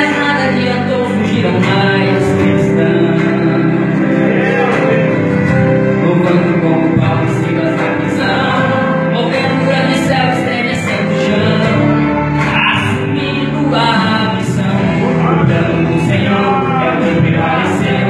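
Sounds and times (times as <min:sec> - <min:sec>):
group singing gospel music: 0:00.0 - 0:18.0
sustained instrumental chords: 0:00.0 - 0:18.0.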